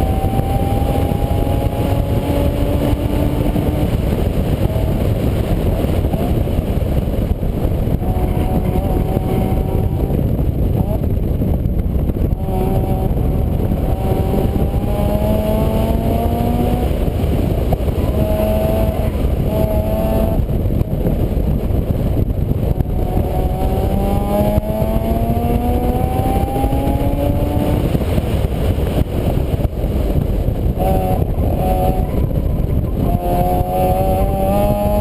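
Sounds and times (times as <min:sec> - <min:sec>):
heavy low rumble: 0:00.0 - 0:35.0
vehicle engine revving: 0:00.0 - 0:35.0.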